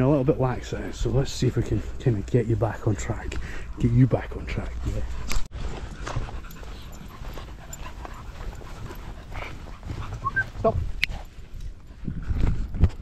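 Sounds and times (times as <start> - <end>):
small dogs panting: 0.4 - 11.5.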